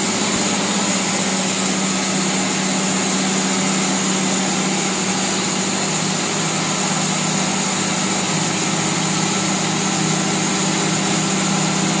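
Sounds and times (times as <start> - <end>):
band sawmill machine hum: 0.0 - 12.0.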